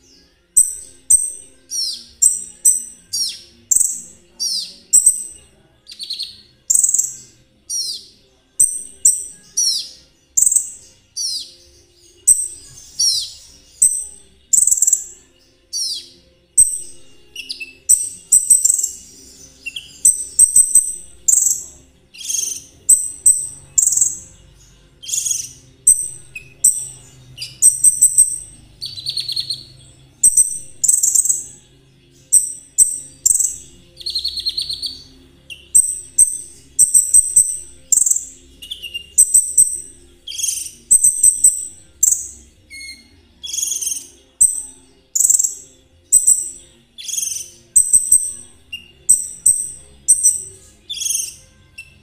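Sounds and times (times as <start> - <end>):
songbird chirping and whistling: 0.0 - 52.0.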